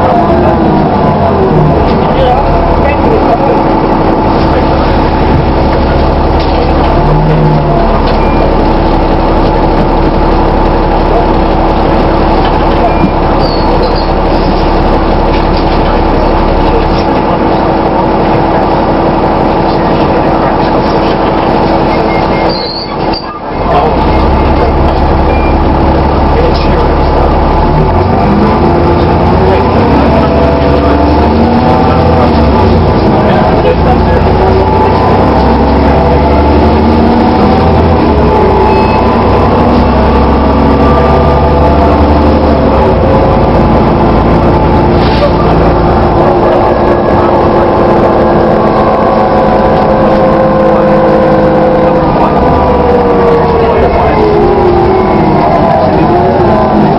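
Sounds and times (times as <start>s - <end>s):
bus engine drone: 0.0s - 56.9s.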